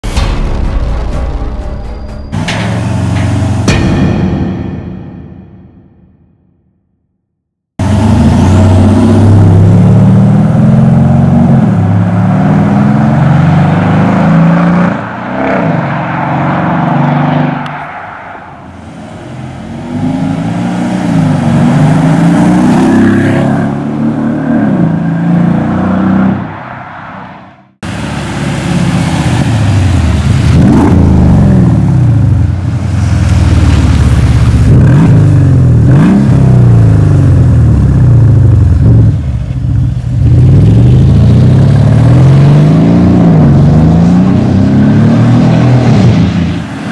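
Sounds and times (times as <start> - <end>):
car engine revving: 7.8 - 46.9.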